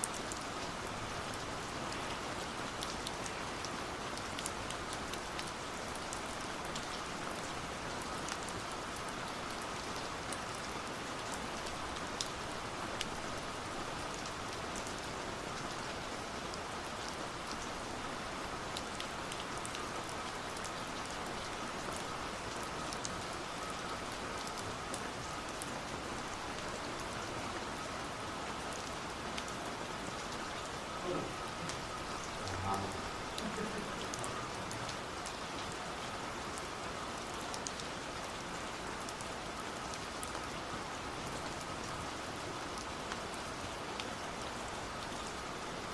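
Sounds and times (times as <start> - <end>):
steady rain pattering: 0.0 - 45.9.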